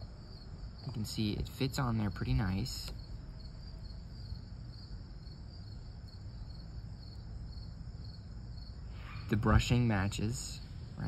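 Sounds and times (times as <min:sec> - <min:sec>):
crickets chirping: 0:00.0 - 0:11.0
low background rumble: 0:00.0 - 0:11.0.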